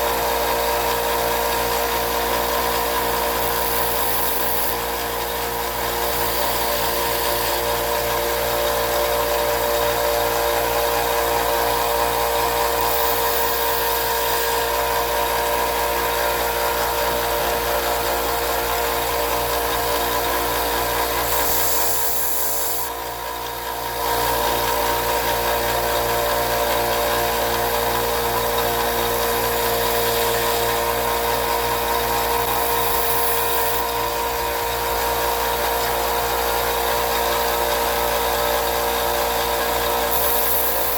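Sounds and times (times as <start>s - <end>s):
electric grinder grinding steel: 0.0s - 40.9s.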